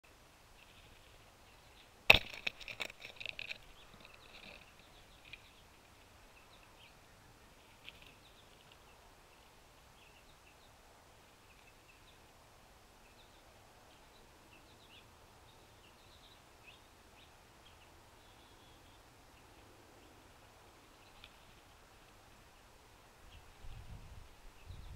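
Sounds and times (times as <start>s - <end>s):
birds chipping and calling: 0.6s - 24.9s.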